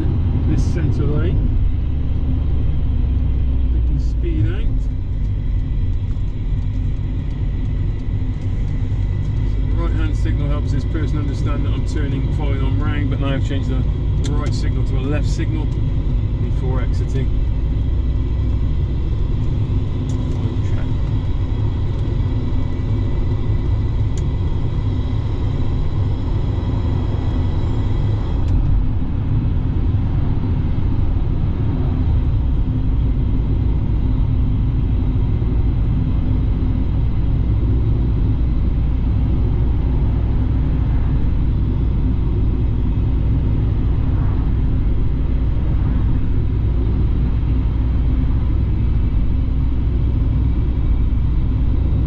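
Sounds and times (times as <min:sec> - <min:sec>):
car interior engine and road rumble: 0:00.0 - 0:52.0.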